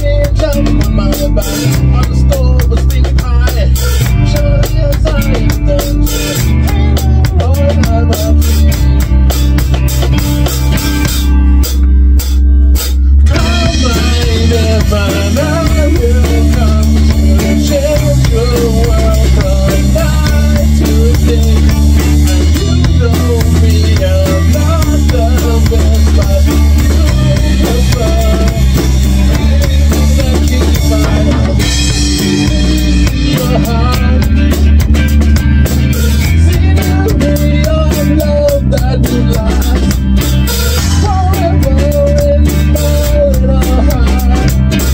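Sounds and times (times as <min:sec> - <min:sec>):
drum kit: 0:00.0 - 0:44.9
electric guitar: 0:00.0 - 0:44.9
rock band playing live: 0:00.0 - 0:44.9.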